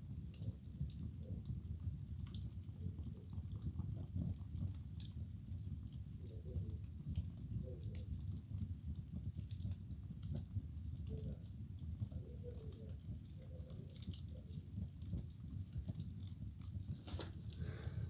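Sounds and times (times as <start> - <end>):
low rumble of fire: 0.0 - 18.0
wood fire crackling: 0.0 - 18.0.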